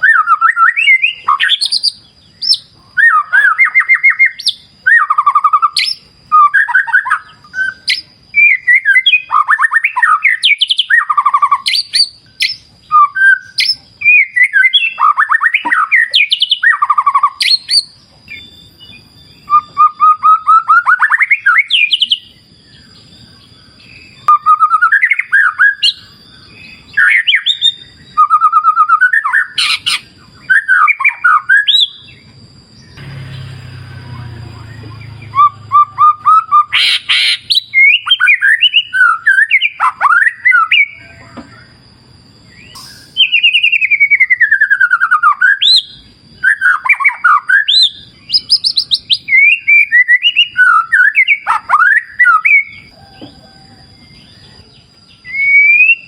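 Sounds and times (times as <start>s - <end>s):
bird singing trills and whistles: 0.0s - 56.0s
faint high whine: 0.0s - 56.0s.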